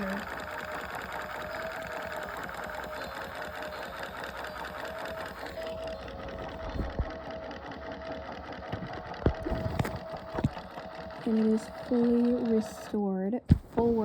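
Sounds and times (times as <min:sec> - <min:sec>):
toy motor mechanical whir: 0:00.0 - 0:13.2.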